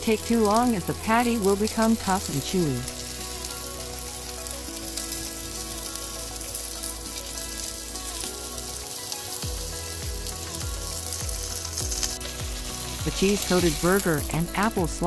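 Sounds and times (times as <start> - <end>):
burger patty sizzling in pan: 0.0 - 15.0
soft background music: 0.0 - 15.0.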